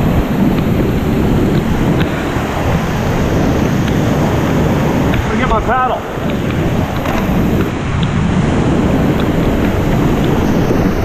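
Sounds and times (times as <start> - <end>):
whitewater rushing over rocks: 0.0 - 11.0.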